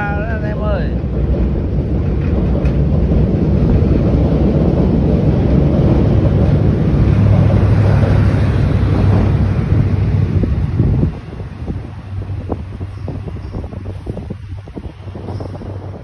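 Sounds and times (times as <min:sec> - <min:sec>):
diesel locomotive rumbling: 0:00.0 - 0:16.0
low engine hum: 0:00.0 - 0:16.0.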